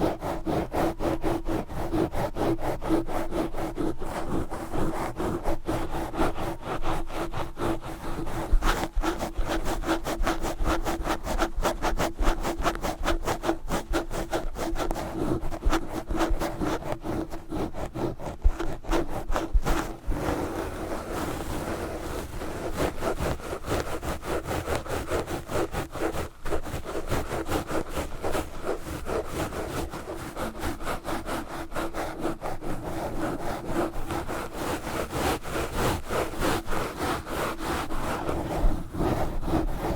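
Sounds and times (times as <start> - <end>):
gloves scratching a microphone: 0.0 - 39.9.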